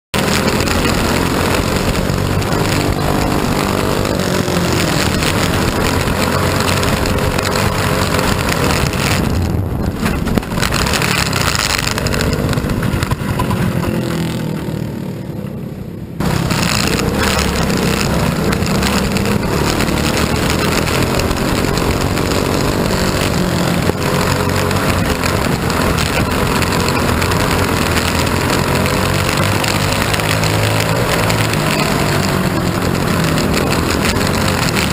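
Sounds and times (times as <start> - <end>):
race car engine running hard: 0.1 - 34.9.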